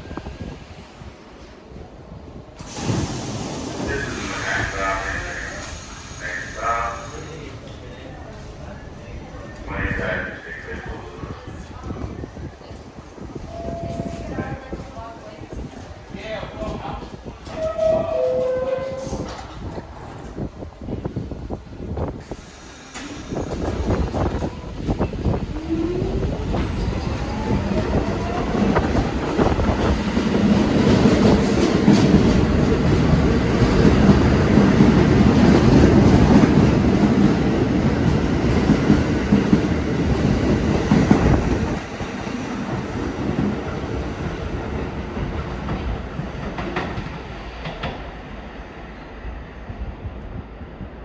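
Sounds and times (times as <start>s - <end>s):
subway train wheels clacking: 0.0s - 51.0s.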